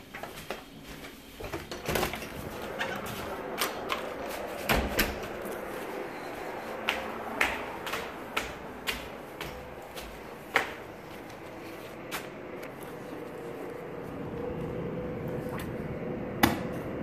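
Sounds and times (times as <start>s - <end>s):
footsteps: 0.0s - 15.8s.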